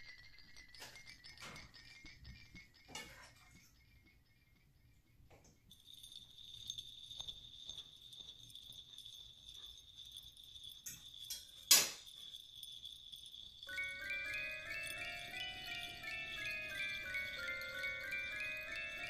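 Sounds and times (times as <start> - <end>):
high-pitched ringing tone: 0.0 - 4.4, 5.4 - 19.0.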